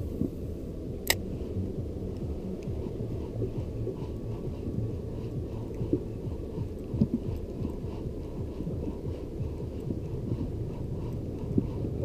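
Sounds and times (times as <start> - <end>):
low uneven rumble: 0.0 - 12.0.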